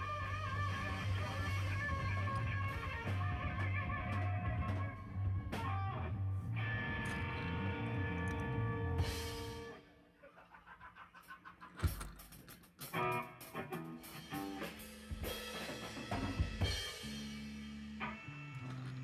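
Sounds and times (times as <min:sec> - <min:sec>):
rock music: 0:00.0 - 0:09.8, 0:11.8 - 0:19.0.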